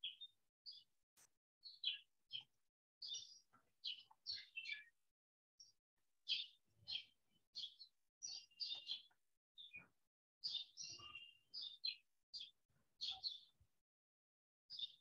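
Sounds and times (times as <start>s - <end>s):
small birds chirping: 0.0s - 13.8s, 14.7s - 15.0s.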